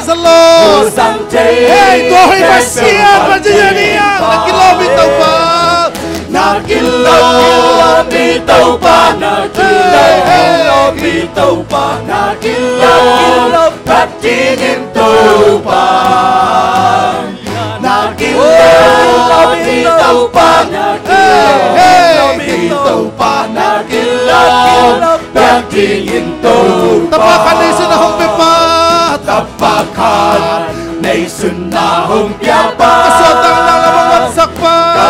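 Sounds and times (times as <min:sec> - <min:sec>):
band playing: 0:00.0 - 0:35.0
congregation singing a praise song: 0:00.0 - 0:35.0.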